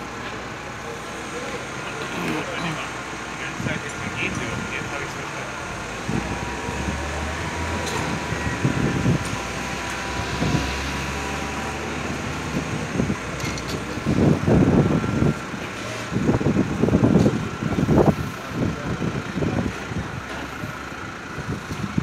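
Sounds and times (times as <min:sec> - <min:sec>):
city street noise: 0:00.0 - 0:22.0
heavy vehicle engine humming: 0:00.0 - 0:22.0.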